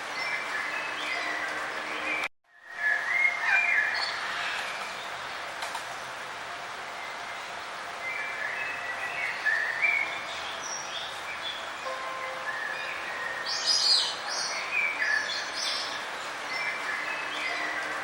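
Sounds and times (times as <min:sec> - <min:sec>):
outdoor ambient hiss: 0:00.0 - 0:18.0
songbirds chirping: 0:00.0 - 0:18.0.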